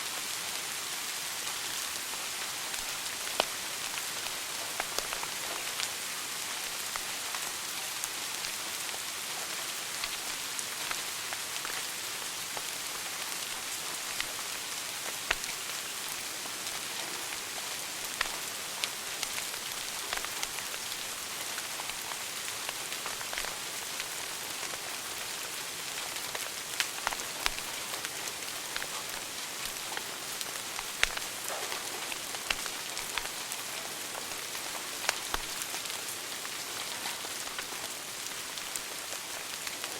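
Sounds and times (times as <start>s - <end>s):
wood fire crackling: 2.1s - 39.9s.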